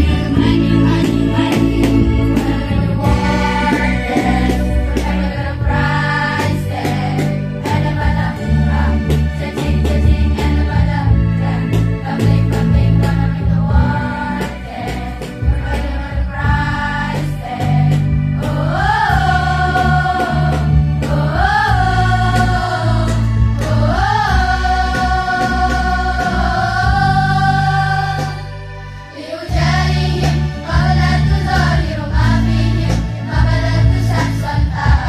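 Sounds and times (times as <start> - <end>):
band with drum kit and keyboard: 0.0 - 35.0
girls' choir singing in unison: 0.0 - 35.0.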